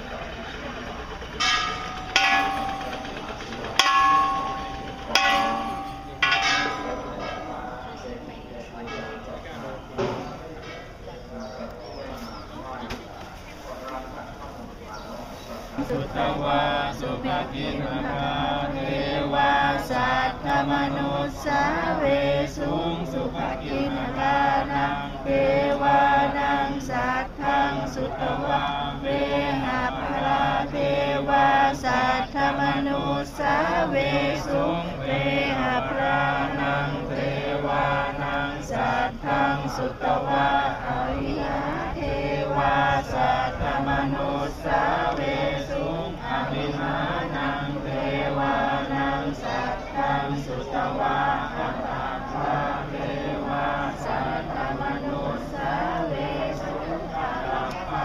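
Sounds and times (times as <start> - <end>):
group of voices chanting: 0.0 - 12.4, 15.8 - 58.0.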